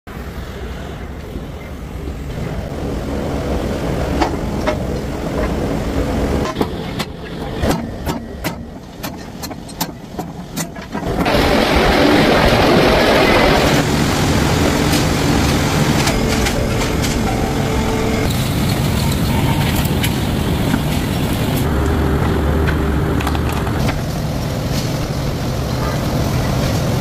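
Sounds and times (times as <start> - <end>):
factory machinery rumbling: 0.1 - 27.0
loud steady rushing noise: 0.1 - 27.0.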